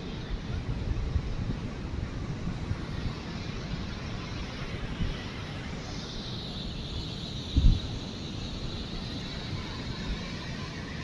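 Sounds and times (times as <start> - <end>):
steady rushing noise: 0.0 - 11.0
wind rumbling on microphone: 0.0 - 11.0.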